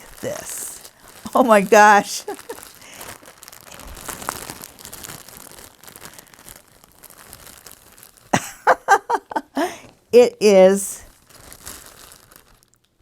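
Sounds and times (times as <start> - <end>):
packaging crinkling and rustling: 0.0 - 10.1, 11.0 - 13.0.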